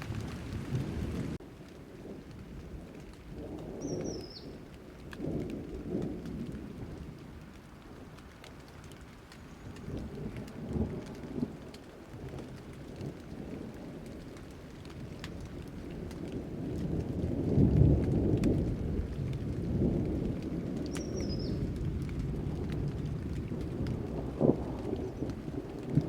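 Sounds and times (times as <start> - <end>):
low rolling thunder: 0.0 - 8.2, 9.6 - 26.0
rain falling: 0.0 - 26.0.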